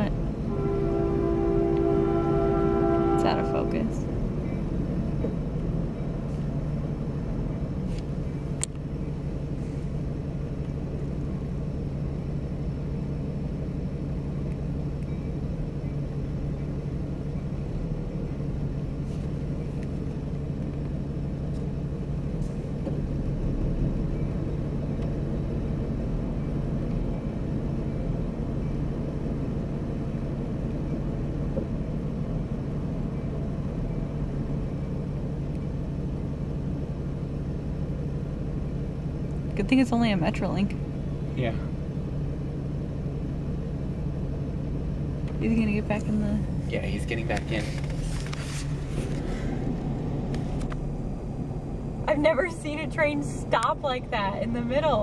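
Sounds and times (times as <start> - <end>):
constant low hum: 0.0 - 55.0
vehicle engine idling: 0.0 - 55.0.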